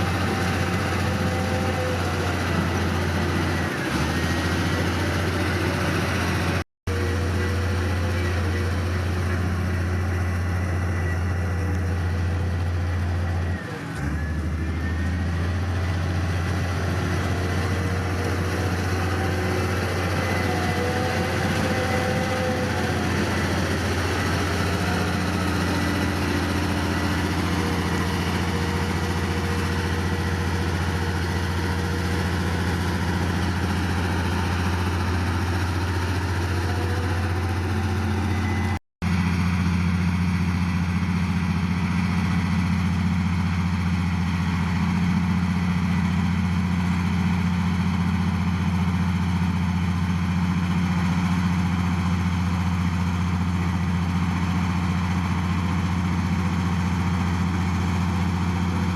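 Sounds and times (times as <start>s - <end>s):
diesel engine humming: 0.0s - 58.9s.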